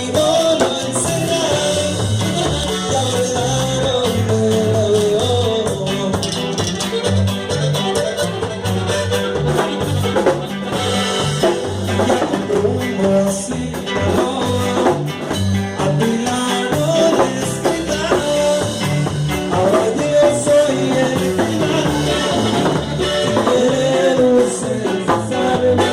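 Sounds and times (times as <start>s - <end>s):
band music with melody and bass: 0.0s - 25.9s.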